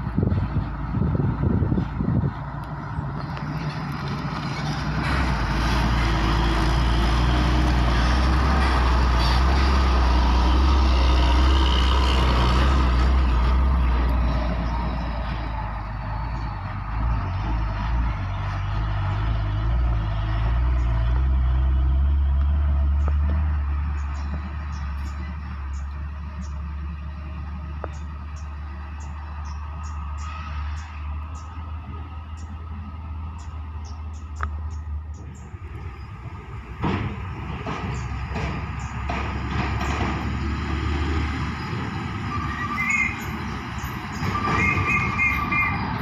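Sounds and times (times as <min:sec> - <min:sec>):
diesel truck engine drone: 0:00.0 - 0:46.0
tyres rumbling on gravel: 0:00.0 - 0:46.0.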